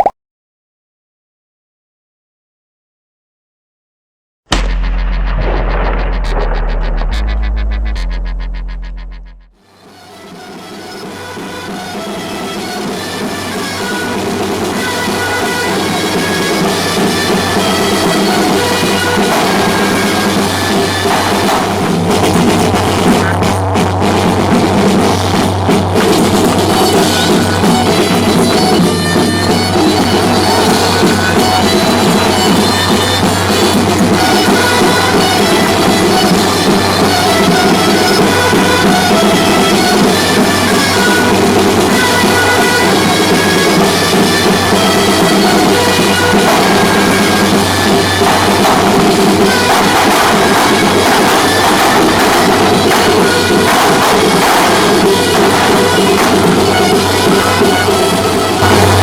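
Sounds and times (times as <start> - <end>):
drums: 4.5 - 9.6, 10.4 - 59.0.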